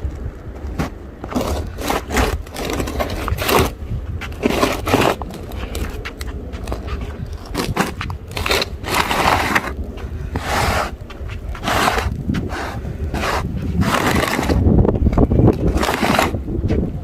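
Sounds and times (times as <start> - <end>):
steady low rumble: 0.0 - 17.0
crunching and scraping in snow: 0.7 - 17.0.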